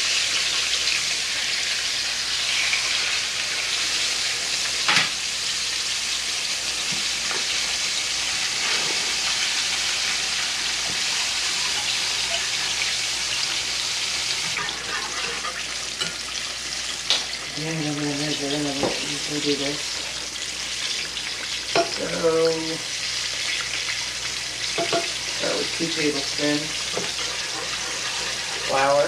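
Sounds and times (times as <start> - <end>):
chicken frying in hot oil: 0.0 - 29.0.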